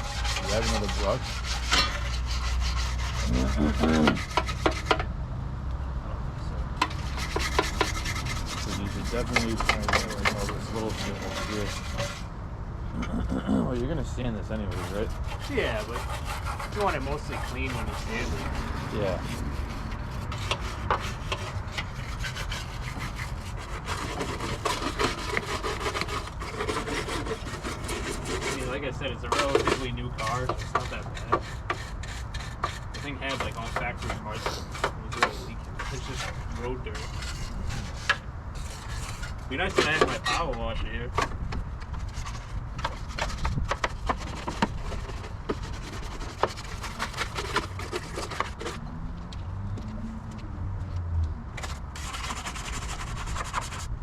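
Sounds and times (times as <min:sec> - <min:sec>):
brush scrubbing sheet metal: 0:00.0 - 0:05.1, 0:06.8 - 0:12.3, 0:14.6 - 0:41.2, 0:41.9 - 0:48.8, 0:51.6 - 0:53.9.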